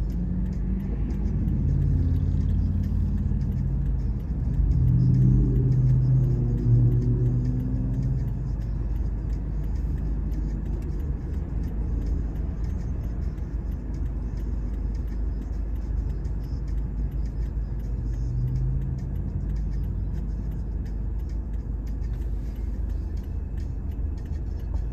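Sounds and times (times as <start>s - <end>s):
deep engine hum: 0.0s - 24.9s
road traffic rumble: 0.0s - 24.9s.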